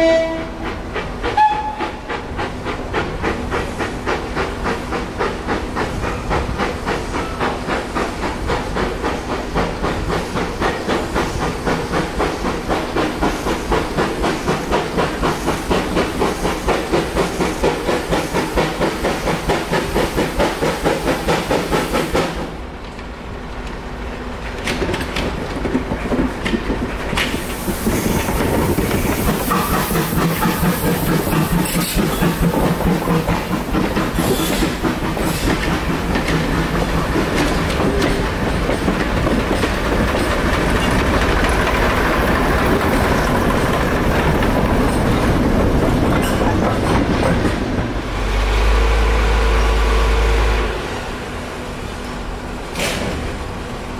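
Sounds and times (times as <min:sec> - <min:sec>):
steam locomotive exhaust beats: 0:00.0 - 0:22.8, 0:23.6 - 0:53.9
train wheels clattering over rail joints: 0:00.1 - 0:51.0, 0:51.9 - 0:53.9.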